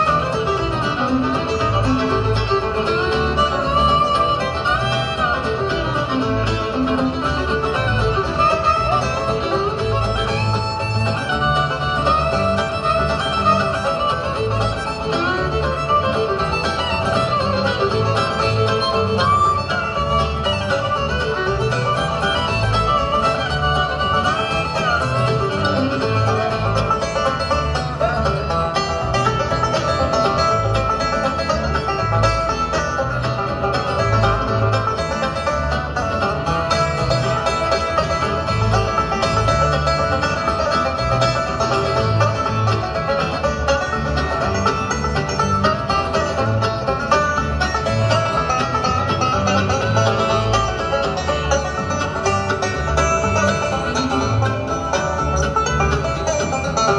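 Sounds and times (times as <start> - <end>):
banjo: 0.0 - 56.9
fiddle: 0.0 - 56.9.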